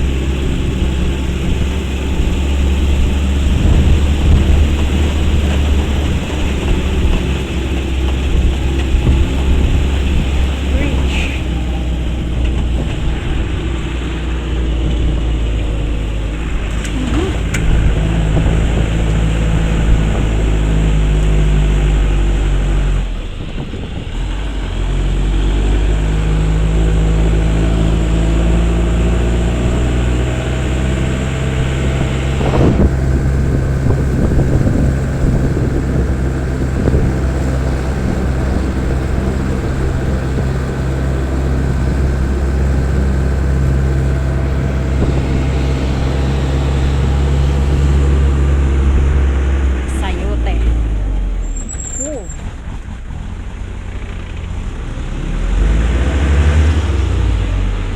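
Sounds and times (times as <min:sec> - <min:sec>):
vehicle engine running: 0:00.0 - 0:57.9.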